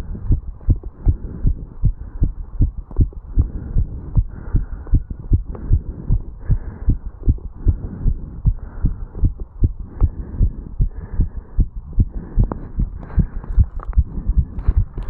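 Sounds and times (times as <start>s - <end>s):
fast heartbeat thuds: 0.0s - 15.0s.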